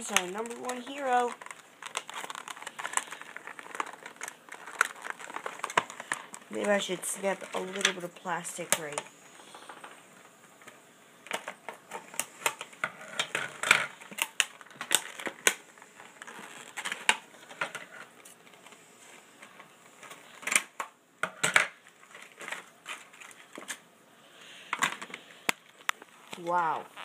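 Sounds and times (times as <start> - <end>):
stiff plastic crackling: 0.0 - 27.0.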